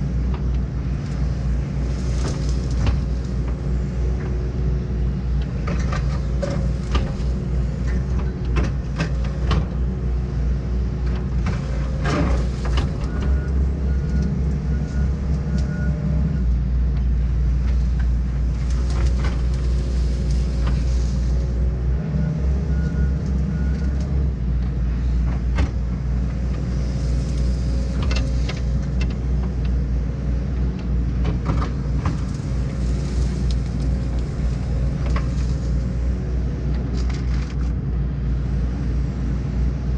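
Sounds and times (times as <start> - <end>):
engine whine: 0.0 - 39.9
excavator diesel engine running: 0.0 - 39.9
cracks and knocks of brush: 0.3 - 4.5, 5.3 - 10.0, 11.0 - 15.8, 16.9 - 21.6, 23.1 - 37.8.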